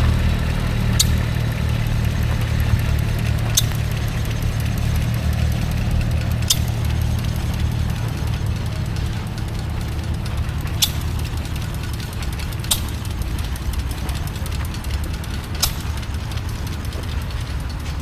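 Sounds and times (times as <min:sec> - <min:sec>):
sharp high clicks: 0:00.0 - 0:18.0
tractor engines rumbling: 0:00.0 - 0:18.0.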